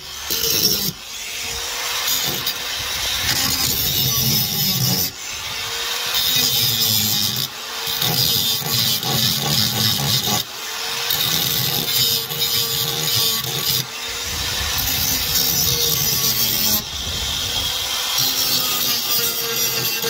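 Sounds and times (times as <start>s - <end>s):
angle grinder grinding metal: 0.0s - 20.0s.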